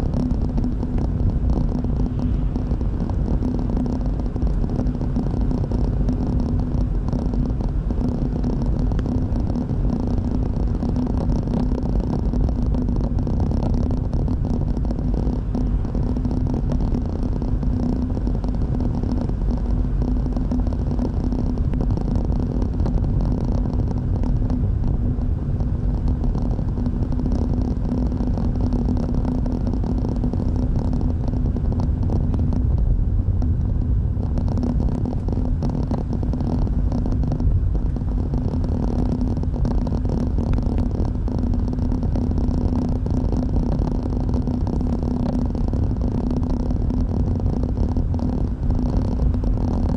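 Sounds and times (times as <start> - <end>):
constant hum: 0.0 - 49.9
tyre and engine rumble: 0.0 - 49.9.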